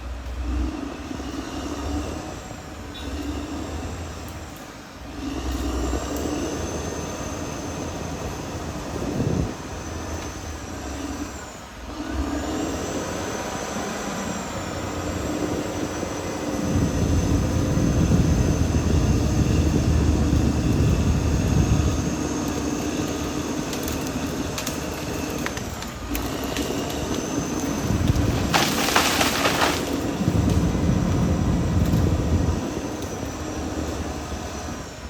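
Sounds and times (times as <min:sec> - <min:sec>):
deep rumble: 0:00.0 - 0:34.9
bulldozer diesel engine running: 0:00.0 - 0:35.0.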